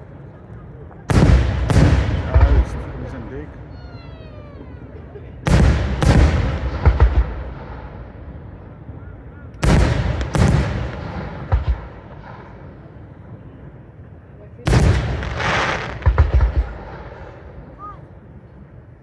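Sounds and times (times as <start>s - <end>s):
fireworks bangs with rumbling echo: 0.9s - 13.5s, 14.6s - 18.0s.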